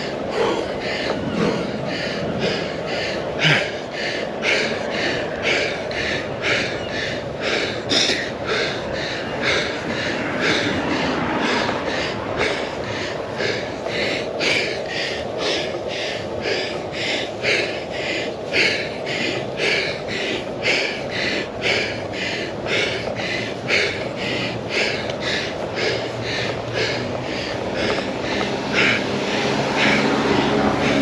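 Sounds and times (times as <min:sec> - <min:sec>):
person breathing hard: 0:00.0 - 0:31.0
wind and tyre noise: 0:00.0 - 0:31.0.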